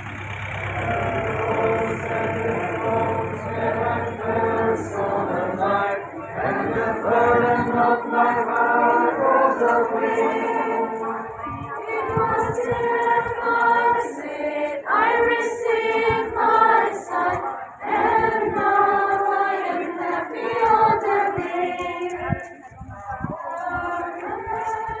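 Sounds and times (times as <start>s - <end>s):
women singing a hymn: 0.0s - 25.0s.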